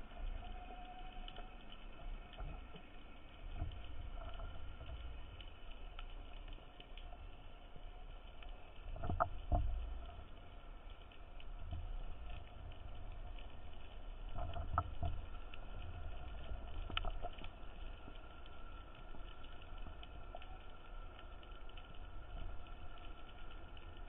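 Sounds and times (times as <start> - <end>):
faint clicks: 0.0 - 24.0
underwater low rumble: 0.0 - 24.0.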